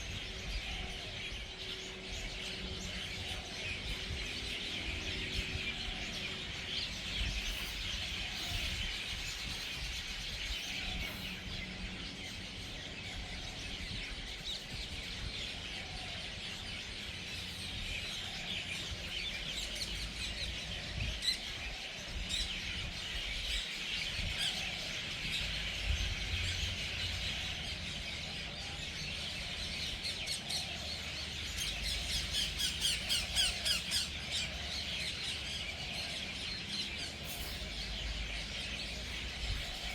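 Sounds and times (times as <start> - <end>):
flock of birds squawking: 0.0 - 39.9.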